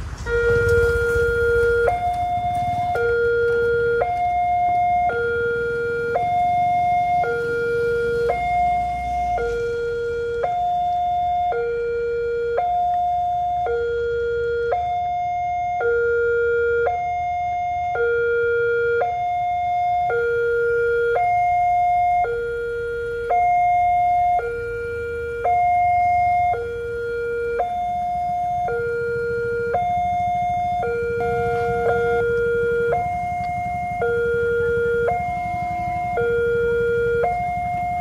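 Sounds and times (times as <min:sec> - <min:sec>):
two-tone warning siren: 0:00.0 - 0:38.0.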